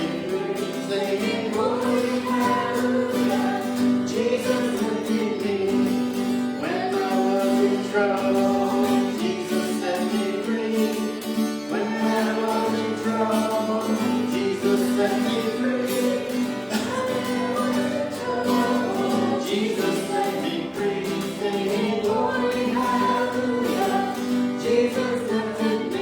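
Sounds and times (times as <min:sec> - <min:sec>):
group singing a hymn: 0:00.0 - 0:26.0
guitar accompaniment: 0:00.0 - 0:26.0.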